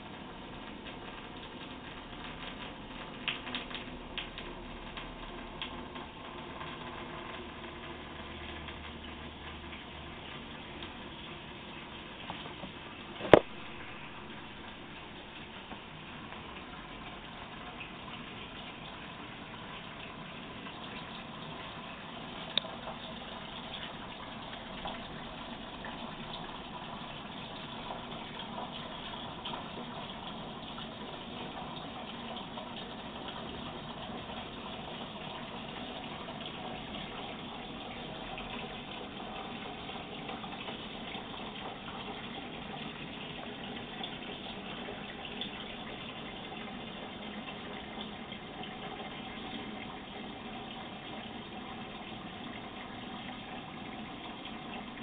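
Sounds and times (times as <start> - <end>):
water rushing into tank: 0.0 - 55.0.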